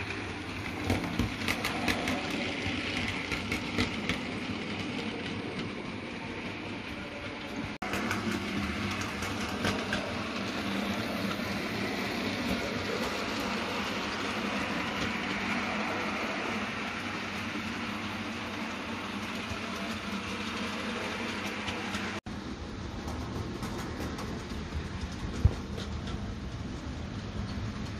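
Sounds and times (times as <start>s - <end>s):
model train rumbling on track: 0.0s - 27.9s.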